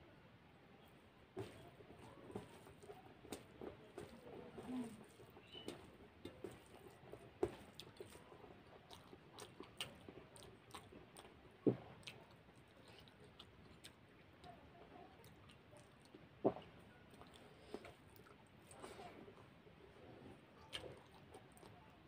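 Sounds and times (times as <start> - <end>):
person chewing: 1.5 - 14.6, 15.2 - 21.8.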